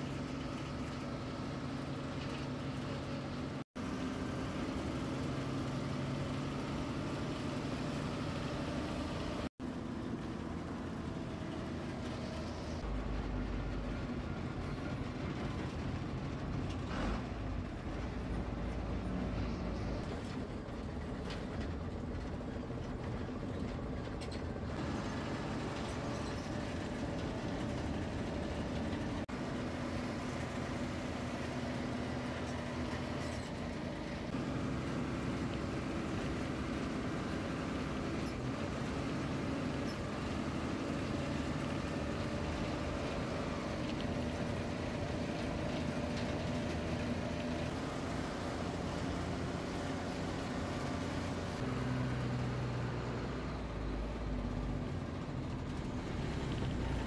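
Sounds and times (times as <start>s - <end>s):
bus diesel engine running: 0.0s - 57.0s
road and body rattle: 0.0s - 57.0s.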